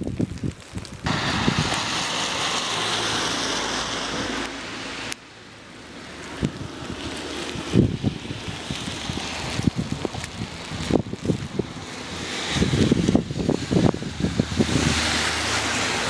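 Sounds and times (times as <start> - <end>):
wind buffeting microphone: 0.0 - 4.5, 6.2 - 16.0
wet snow falling: 0.0 - 16.0
wind rushing: 0.0 - 16.0.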